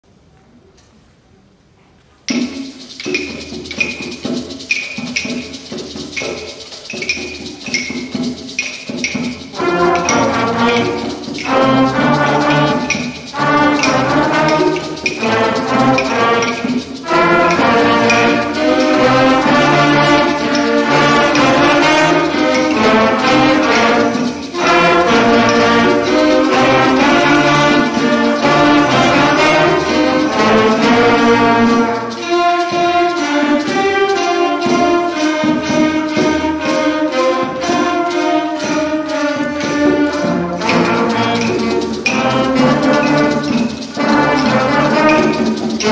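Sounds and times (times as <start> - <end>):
light percussion beat: 2.2 - 45.9
concert band brass and woodwinds: 2.8 - 45.9.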